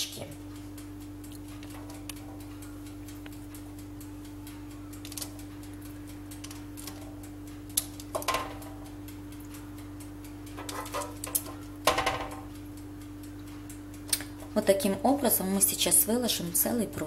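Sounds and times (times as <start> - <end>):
steady low hum: 0.0 - 17.0
faint ticking: 0.2 - 17.0.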